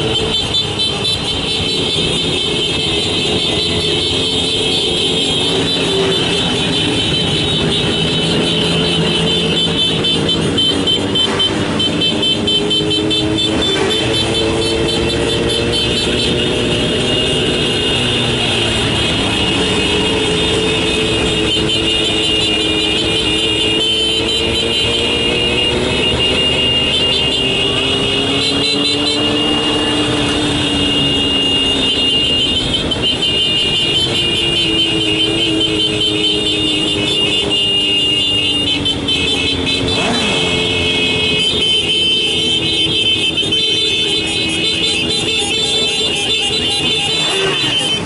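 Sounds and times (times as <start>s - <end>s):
motorcycle engines running: 0.0s - 48.0s.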